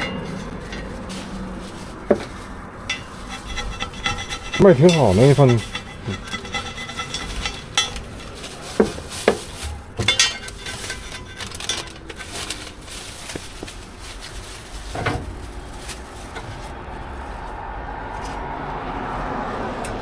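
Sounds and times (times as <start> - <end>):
metal utensils and pans clinking: 0.0 - 16.7.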